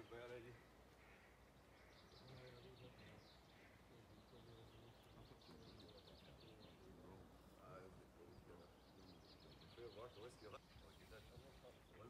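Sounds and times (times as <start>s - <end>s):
faint bird chirps and trills: 0.0s - 12.0s
faint distant voices: 0.0s - 12.0s.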